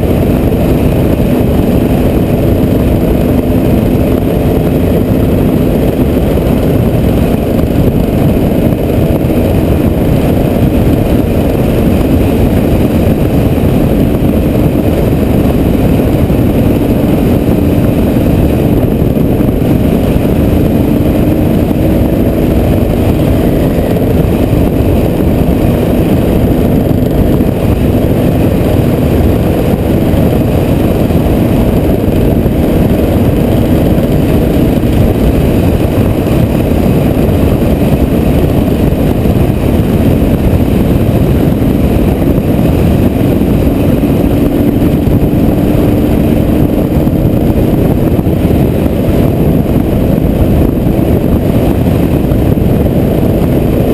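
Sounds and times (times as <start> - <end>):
strong wind buffeting microphone: 0.0 - 53.9.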